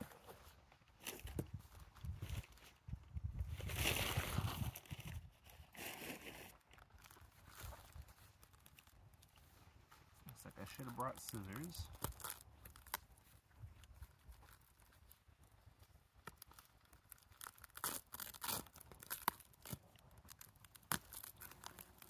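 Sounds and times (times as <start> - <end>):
plastic tearing crackles: 3.6 - 9.6, 10.2 - 22.0
plastic wrapping crinkling: 3.6 - 22.0.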